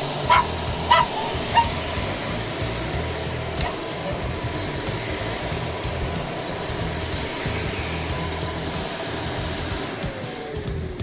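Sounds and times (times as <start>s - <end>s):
vacuum cleaner humming: 0.0s - 11.0s.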